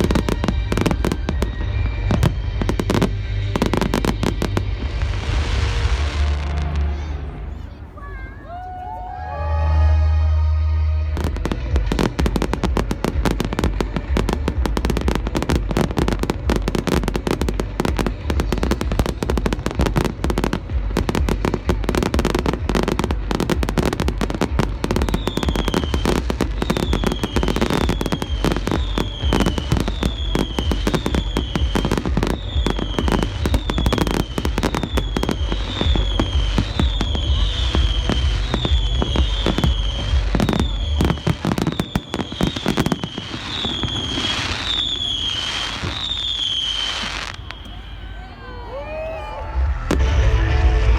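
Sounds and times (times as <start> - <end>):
low rumble: 0.0 - 7.9, 9.5 - 41.4, 48.7 - 50.9
fireworks bangs and crackles: 0.0 - 8.7, 9.8 - 50.9.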